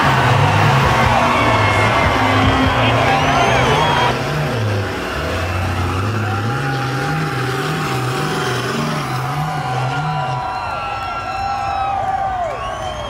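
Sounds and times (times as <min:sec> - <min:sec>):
truck engines straining: 0:00.0 - 0:13.0.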